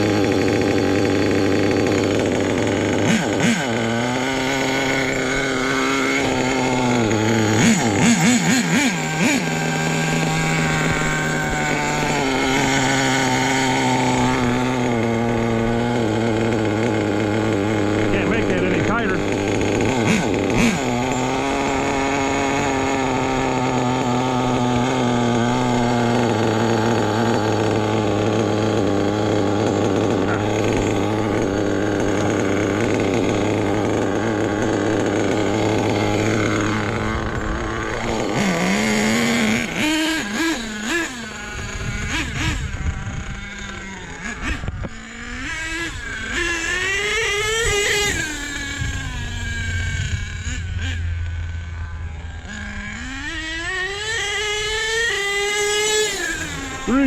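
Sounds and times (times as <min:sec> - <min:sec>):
rc truck engine buzzing and revving: 0:00.0 - 0:57.0.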